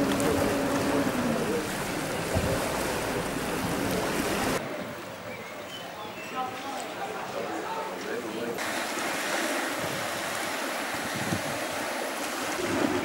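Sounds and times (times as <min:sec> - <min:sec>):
surf: 0:00.0 - 0:05.3, 0:06.3 - 0:13.0
wind: 0:00.0 - 0:13.0.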